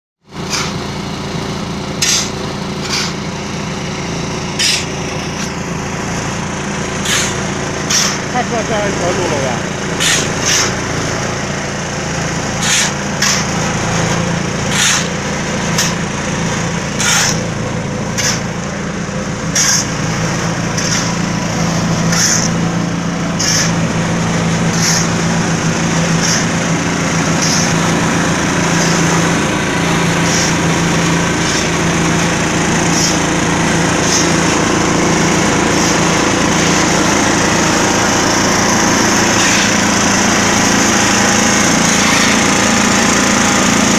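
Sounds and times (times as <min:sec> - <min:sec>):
concrete mixer rasping: 0:00.2 - 0:43.9
diesel engine running: 0:00.2 - 0:43.9.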